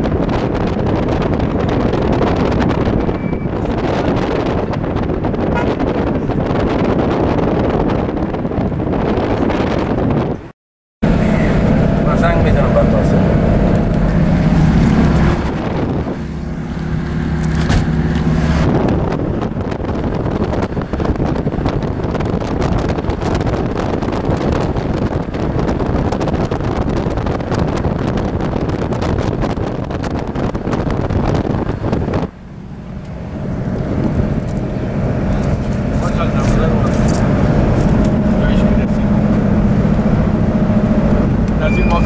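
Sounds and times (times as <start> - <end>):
car engine and road hum: 0.0 - 42.0
wind rushing through car window: 0.0 - 42.0.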